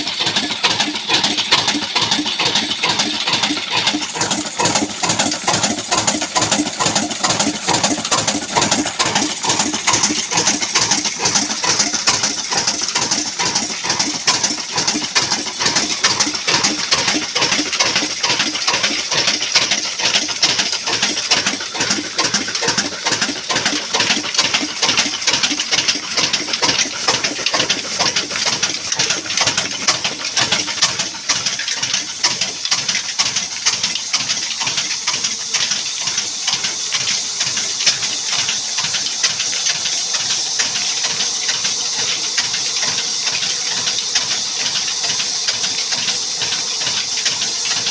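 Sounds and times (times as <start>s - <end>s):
diesel engine knocking: 0.0s - 47.9s.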